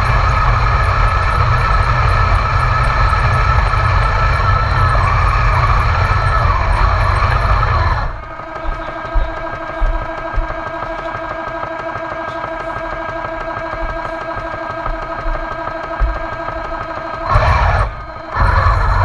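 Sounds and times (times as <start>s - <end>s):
drive motors gears and tracks: 0.0s - 19.0s
engine idle drone through speaker: 0.0s - 19.0s.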